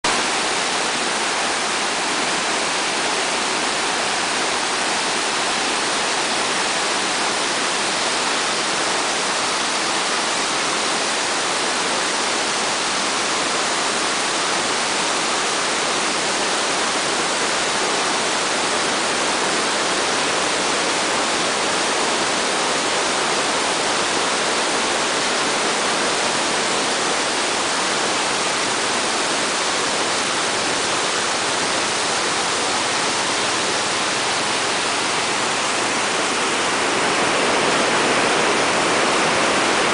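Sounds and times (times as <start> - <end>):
stream rushing over gravel: 0.0 - 39.9.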